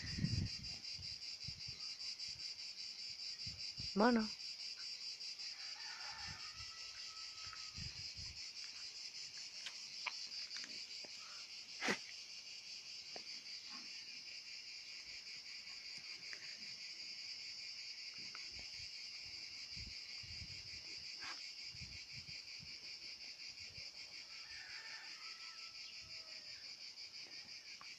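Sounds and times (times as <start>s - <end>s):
insects chirping: 0.0s - 27.9s.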